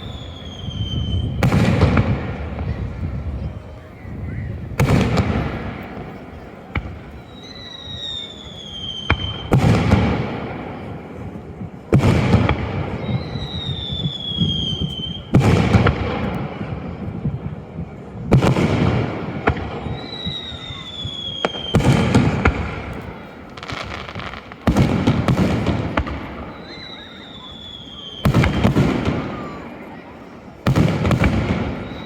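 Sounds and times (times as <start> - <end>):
fireworks bursting with echo: 0.0 - 32.0.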